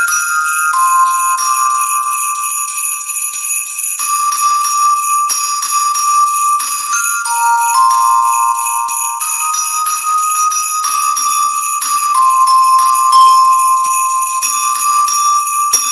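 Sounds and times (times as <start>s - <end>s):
high held tones: 0.0s - 15.9s
sleigh bells jingling: 0.0s - 15.9s.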